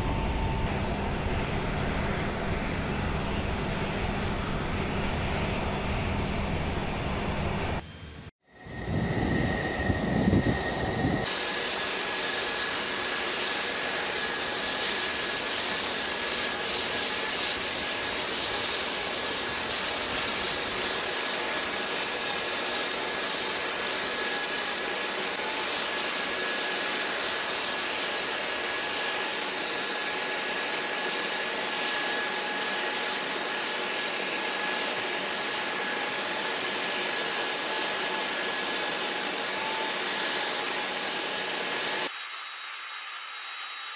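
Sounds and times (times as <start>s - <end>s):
jet turbine running: 0.0s - 42.1s.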